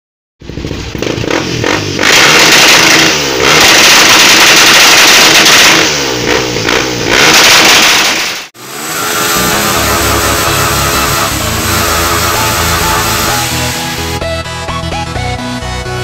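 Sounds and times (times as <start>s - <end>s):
motorcycle engine revving: 0.4s - 14.3s.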